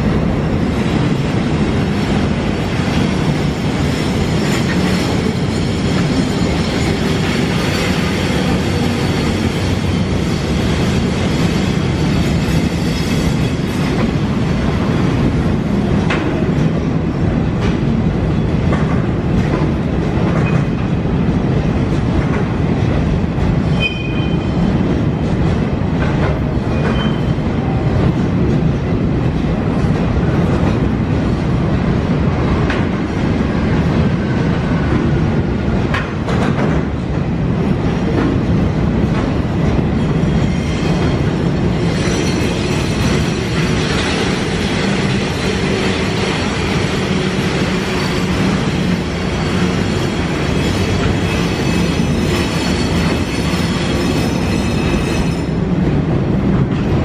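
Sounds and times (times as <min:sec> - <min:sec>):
train wagons rumbling past: 0:00.0 - 0:57.0.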